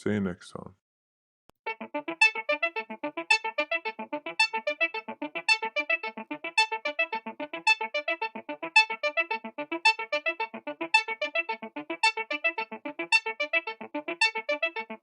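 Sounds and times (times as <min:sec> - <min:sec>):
bright keyboard notes with beat: 0:01.7 - 0:15.0.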